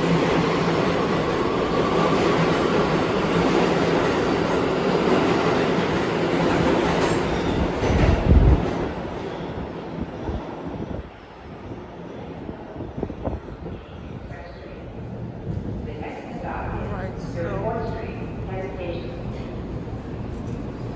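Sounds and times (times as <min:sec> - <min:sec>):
subway train wheels on rail: 0:00.0 - 0:20.9.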